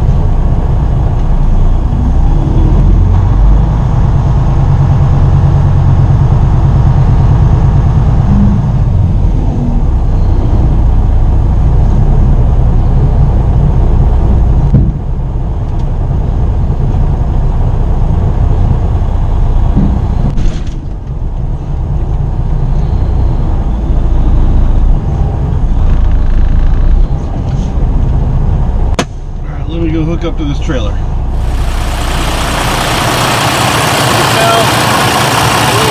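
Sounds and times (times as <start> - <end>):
truck diesel engine: 0.0 - 35.9.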